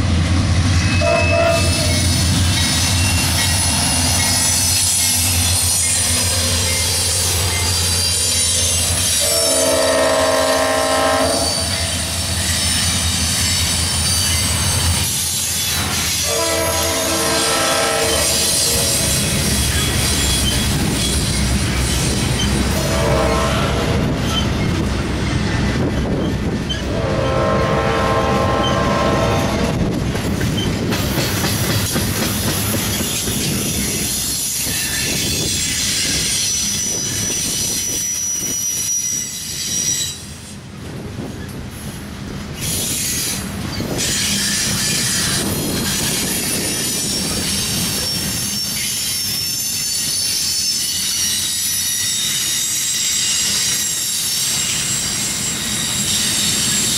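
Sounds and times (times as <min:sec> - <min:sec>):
freight train wheels rumbling: 0:00.0 - 0:56.9
high wheel squeal: 0:00.8 - 0:24.8, 0:32.6 - 0:40.4, 0:42.6 - 0:56.9.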